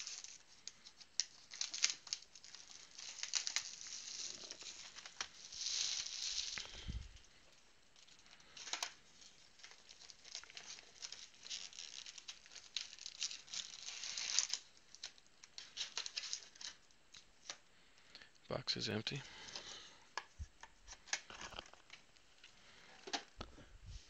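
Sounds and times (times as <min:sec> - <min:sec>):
plastic packaging crinkling and tearing: 0:00.0 - 0:17.7, 0:19.4 - 0:23.4.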